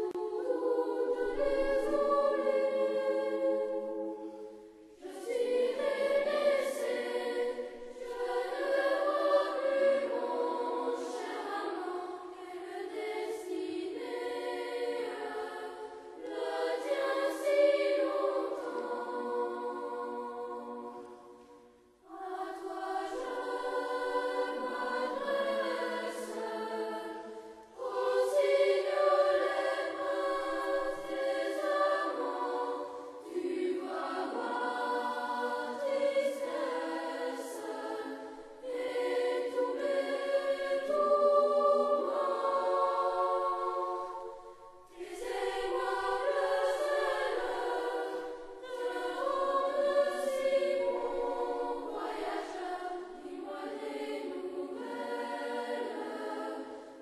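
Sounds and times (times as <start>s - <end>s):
choir singing folk song: 0.0s - 57.0s.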